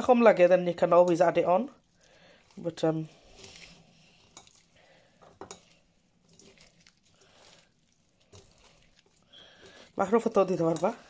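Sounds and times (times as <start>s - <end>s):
wet squishing of hand mixing: 0.0s - 11.0s.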